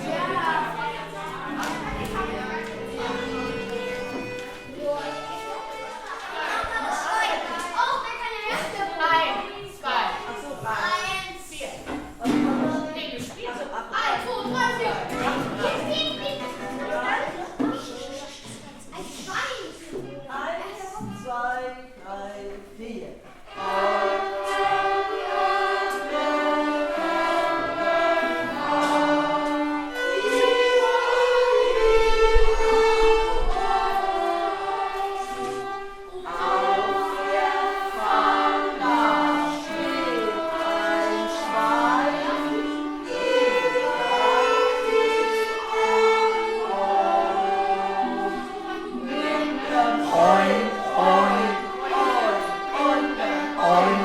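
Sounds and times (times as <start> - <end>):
choir singing: 0.0 - 11.0, 13.9 - 17.6, 23.4 - 54.0
string instruments: 0.0 - 54.0.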